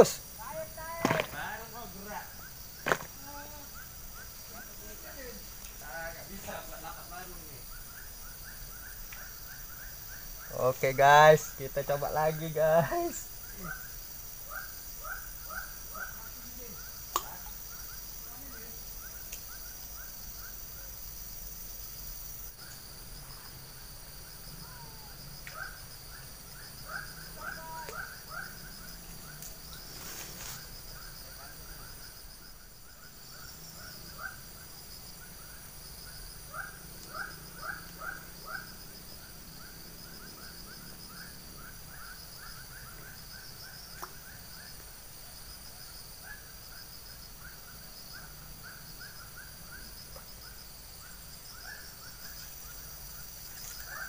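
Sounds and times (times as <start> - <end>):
pulsing insect drone: 0.0 - 54.0.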